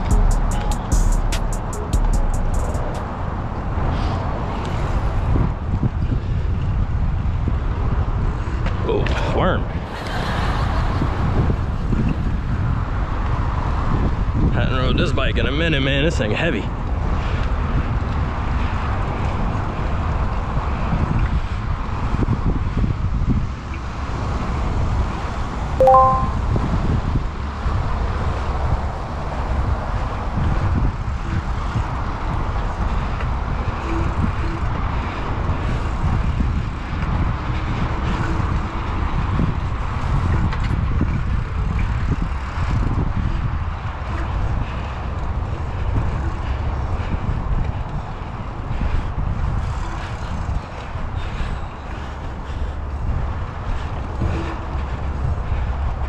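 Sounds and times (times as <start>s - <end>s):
wind buffeting microphone: 0.0s - 25.8s, 26.4s - 56.0s.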